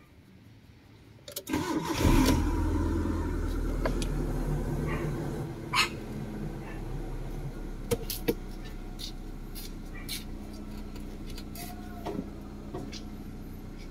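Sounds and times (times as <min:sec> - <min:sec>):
car engine idling: 0:00.4 - 0:13.9.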